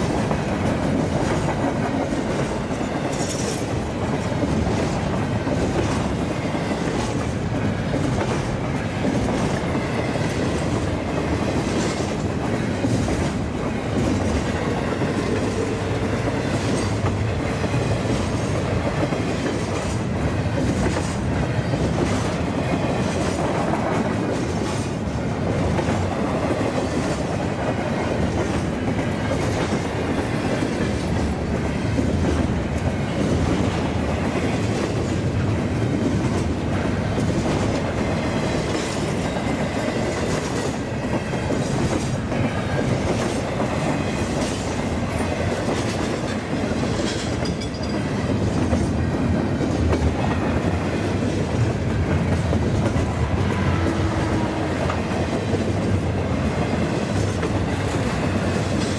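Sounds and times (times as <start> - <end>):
freight train wheels rumbling: 0.0 - 58.9
wheels clacking over rail joints: 0.0 - 58.9.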